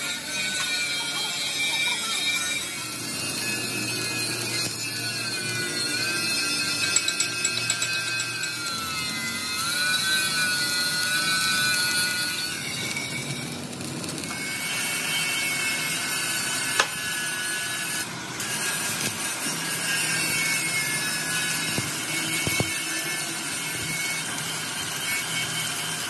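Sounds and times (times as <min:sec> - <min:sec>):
thin wavering whine: 0:00.0 - 0:26.0
welding arc crackling sizzle: 0:00.0 - 0:26.0.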